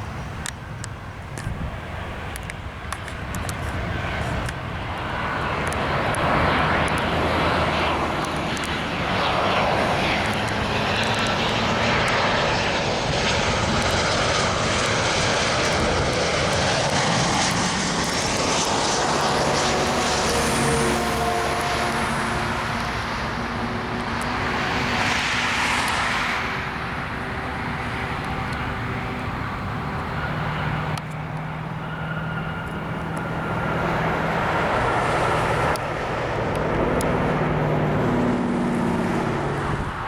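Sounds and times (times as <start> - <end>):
jet engine rushing: 0.0 - 40.0.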